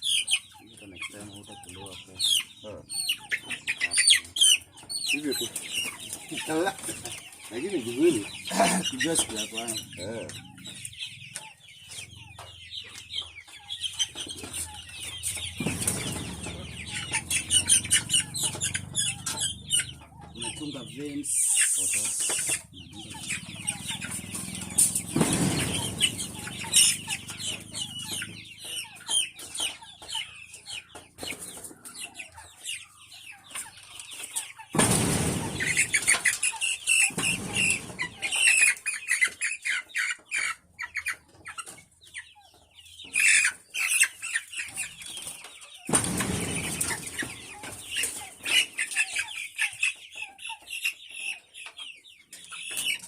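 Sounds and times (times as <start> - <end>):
chickens clucking and squawking: 0.0 - 53.0.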